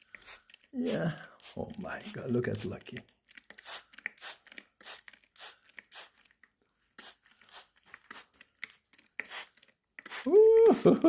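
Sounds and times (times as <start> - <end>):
spray bottle hissing sprays: 0.1 - 2.8, 3.5 - 6.2, 7.0 - 11.0.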